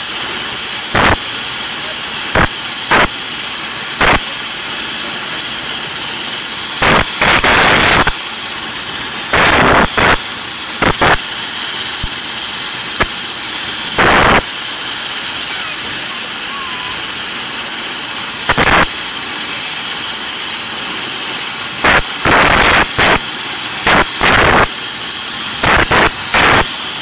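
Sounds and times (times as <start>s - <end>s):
helicopter turbine hiss: 0.0s - 27.0s
rotor downwash buffeting microphone: 0.0s - 27.0s.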